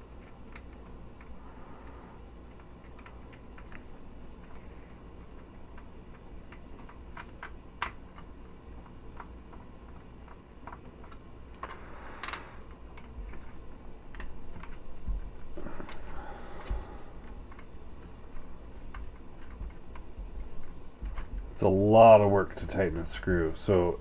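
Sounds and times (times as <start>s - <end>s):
plastic parts handled: 2.4s - 21.8s.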